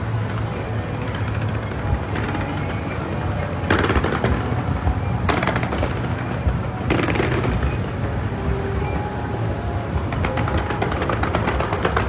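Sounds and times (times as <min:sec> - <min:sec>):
fireworks crackling: 0:00.0 - 0:12.0
low background rumble: 0:00.0 - 0:12.0.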